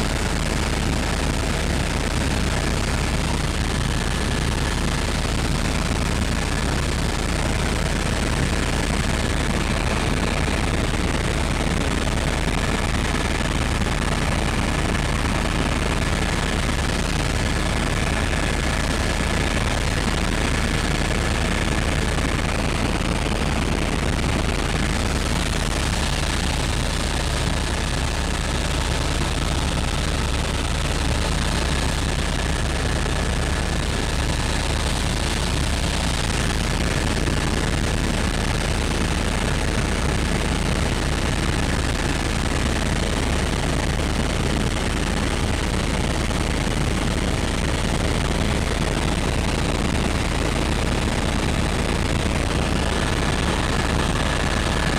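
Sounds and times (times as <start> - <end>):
helicopter cabin rush: 0.0 - 54.9.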